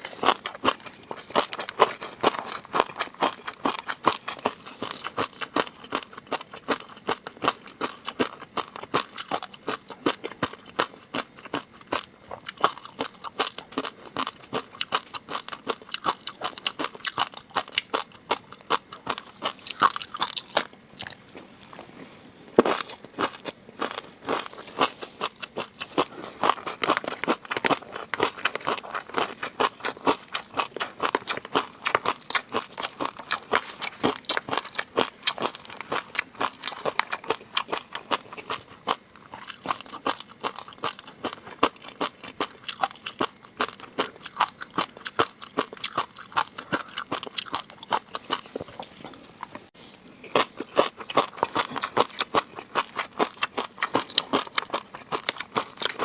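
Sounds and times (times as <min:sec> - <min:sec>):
crunching and chewing food: 0:00.0 - 0:56.0.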